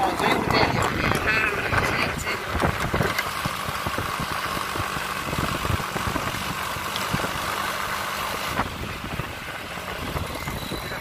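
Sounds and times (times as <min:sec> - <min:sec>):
auto-rickshaw engine running: 0:00.0 - 0:11.0
motorcycle engine: 0:00.0 - 0:11.0.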